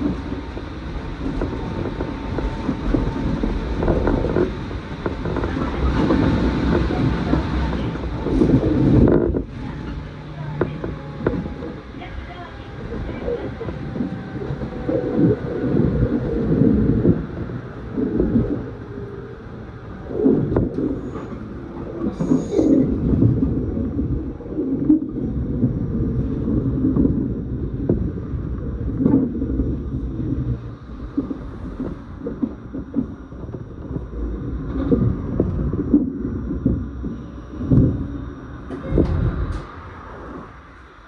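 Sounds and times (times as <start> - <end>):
train rumbling on rails: 0.0 - 41.0.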